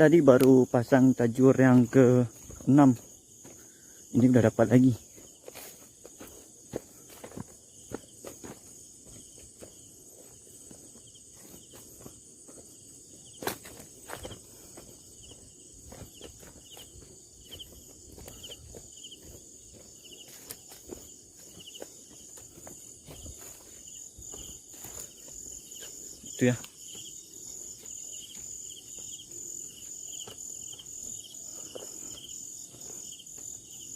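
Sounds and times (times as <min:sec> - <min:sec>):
footsteps: 0:01.5 - 0:33.9.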